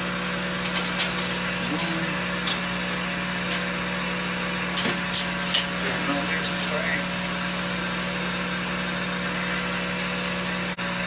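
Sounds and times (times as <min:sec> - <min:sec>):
mechanical hum of equipment: 0:00.0 - 0:11.0.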